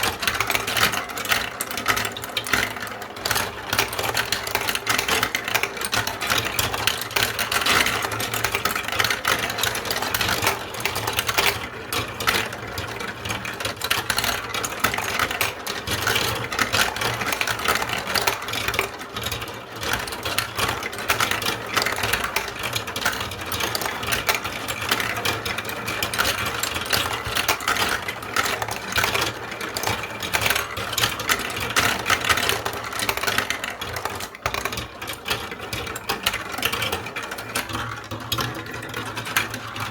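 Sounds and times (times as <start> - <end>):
marbles rattling down a track: 0.0 - 39.9.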